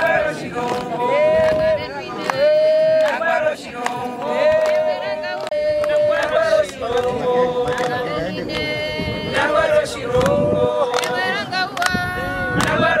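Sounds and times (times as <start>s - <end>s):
hand claps: 0.0s - 8.7s, 9.4s - 13.0s.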